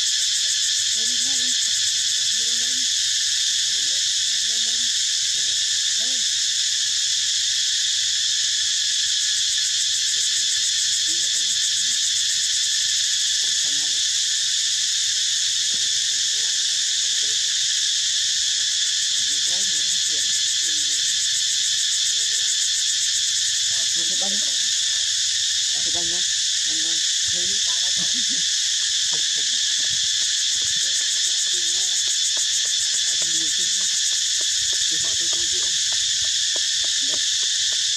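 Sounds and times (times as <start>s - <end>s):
insects buzzing: 0.0s - 37.9s.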